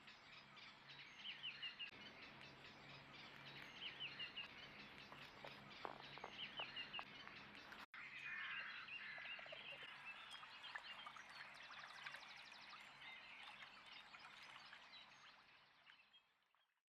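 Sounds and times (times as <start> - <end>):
songbirds chirping and warbling: 0.0 - 16.7.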